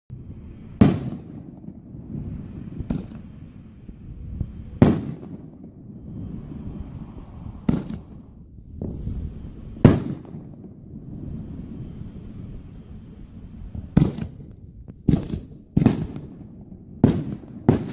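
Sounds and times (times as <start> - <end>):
fireworks bangs: 0.1 - 17.9
fireworks rumbling and crackle: 0.1 - 17.9.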